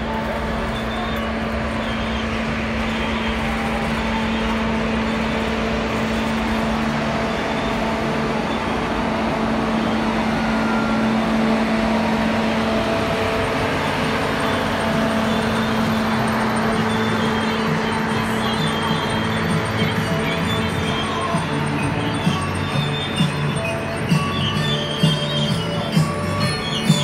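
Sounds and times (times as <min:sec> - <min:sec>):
steady low hum: 0:00.0 - 0:27.0
train wheels rumbling on rails: 0:00.0 - 0:27.0.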